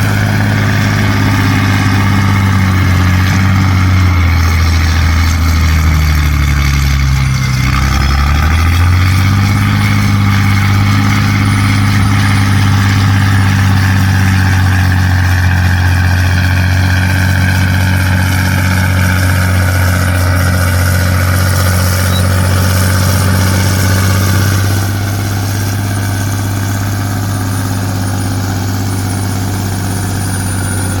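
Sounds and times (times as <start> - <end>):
dump truck engine running: 0.0 - 31.0.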